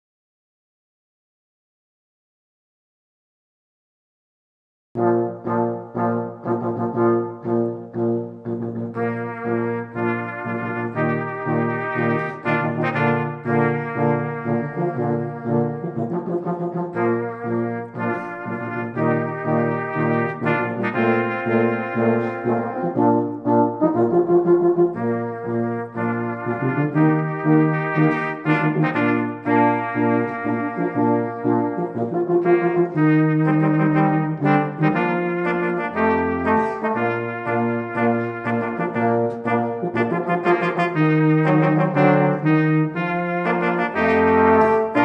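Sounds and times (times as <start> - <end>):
brass group playing a march: 5.0 - 45.0.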